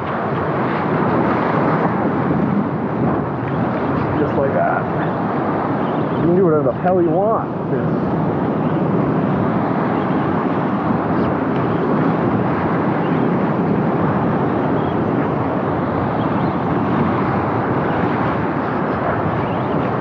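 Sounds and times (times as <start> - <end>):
surf at the shoreline: 0.0 - 20.0
wind: 0.0 - 20.0.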